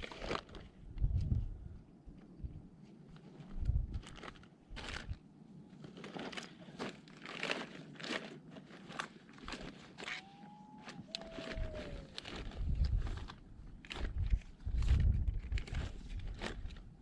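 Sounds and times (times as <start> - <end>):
crunching and rustling: 0.0 - 0.9, 3.0 - 17.0.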